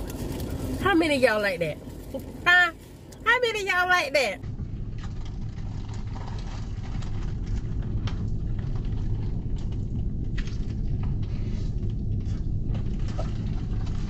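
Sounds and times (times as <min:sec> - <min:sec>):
car cabin low rumble: 0:00.0 - 0:14.0.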